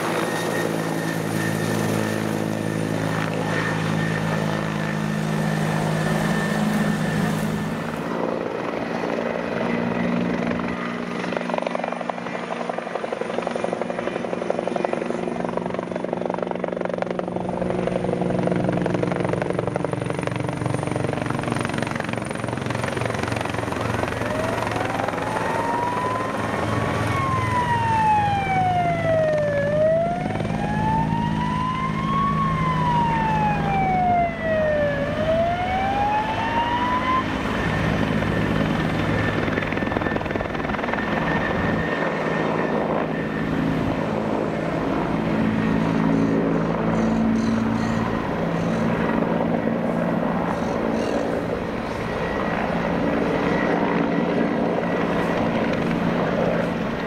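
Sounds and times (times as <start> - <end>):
siren wailing: 0.0 - 17.1, 23.2 - 57.0
helicopter flying overhead: 0.0 - 57.0.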